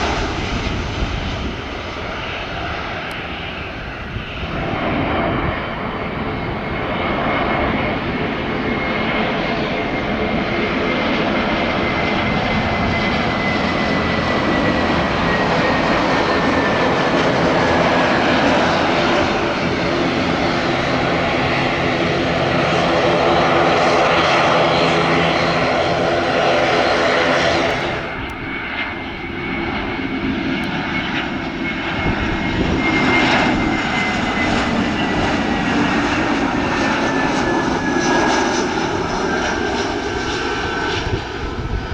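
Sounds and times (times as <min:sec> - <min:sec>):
airliner engine whine: 0:00.0 - 0:41.9.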